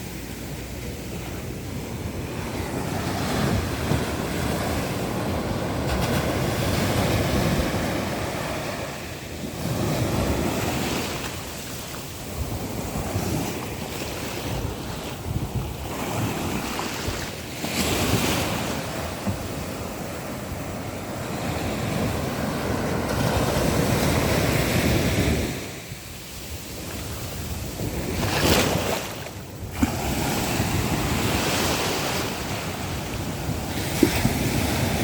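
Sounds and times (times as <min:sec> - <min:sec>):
sea waves breaking on shore: 0:00.0 - 0:35.0.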